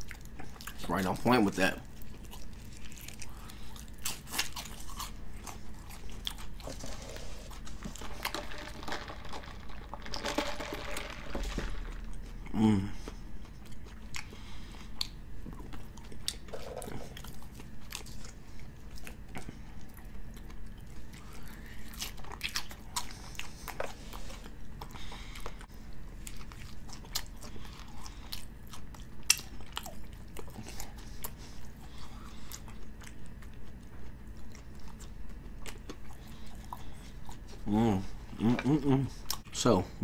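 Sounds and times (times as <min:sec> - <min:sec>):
person chewing crunchy food: 0:00.0 - 0:00.9, 0:01.8 - 0:39.5.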